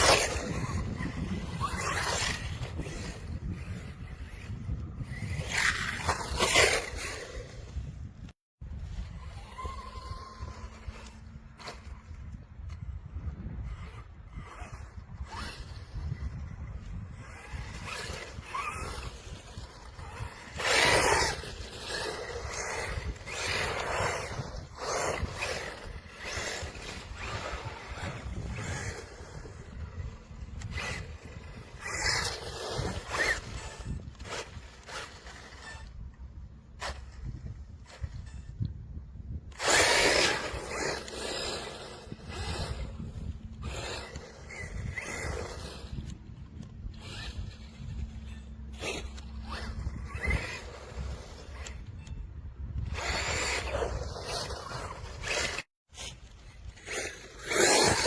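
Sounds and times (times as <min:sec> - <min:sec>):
rc truck driving over rough ground: 0:00.0 - 0:58.0
wind rumble on microphone: 0:00.0 - 0:58.0.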